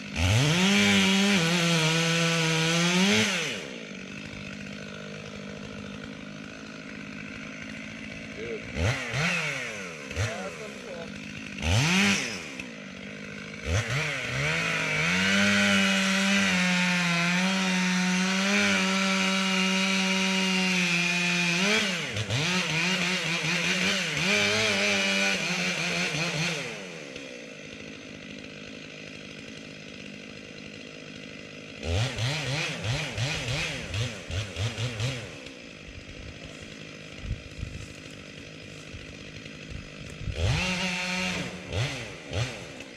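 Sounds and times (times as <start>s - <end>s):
chainsaw revving and cutting: 0.0s - 42.9s.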